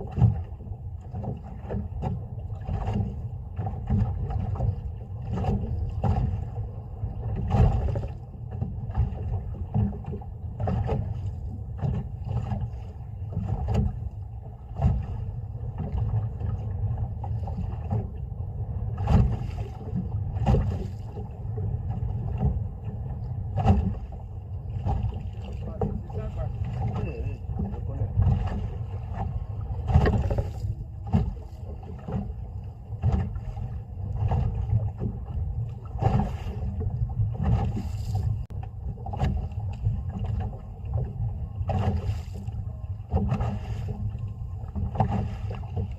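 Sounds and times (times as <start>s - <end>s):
waves slapping boat hull: 0.0s - 45.9s
wind rumble on microphone: 0.0s - 45.9s.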